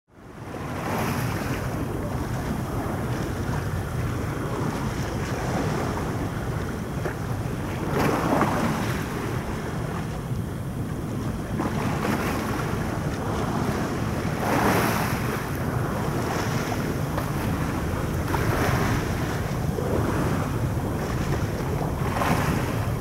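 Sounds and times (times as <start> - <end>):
wind buffeting microphone: 0.2 - 23.0.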